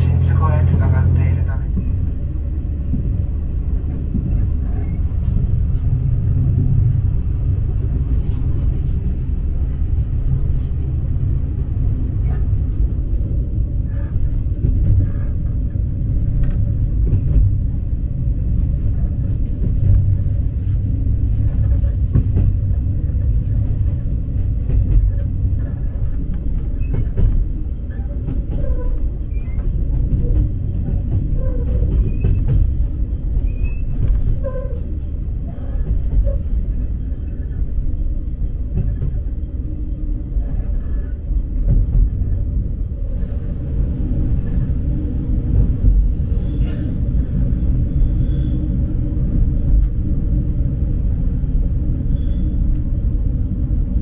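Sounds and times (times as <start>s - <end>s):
diesel railcar rumble: 0.0s - 54.0s.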